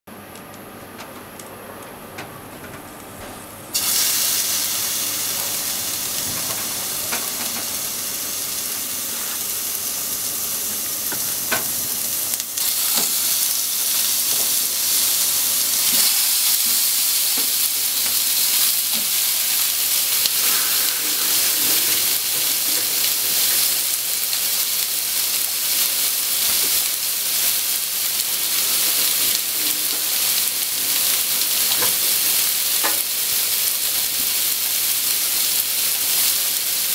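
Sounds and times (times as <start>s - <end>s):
pork sizzling in frying pan: 2.8s - 36.9s.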